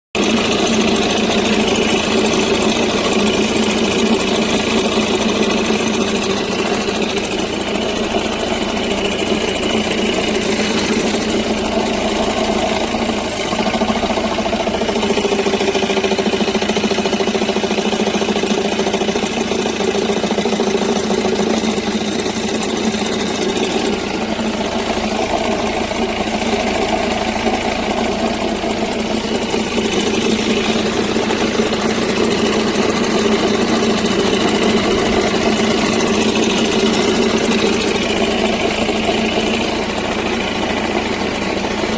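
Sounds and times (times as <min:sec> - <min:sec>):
car engine idling: 0:00.2 - 0:41.9
flywheel knocking rattle: 0:00.2 - 0:41.9.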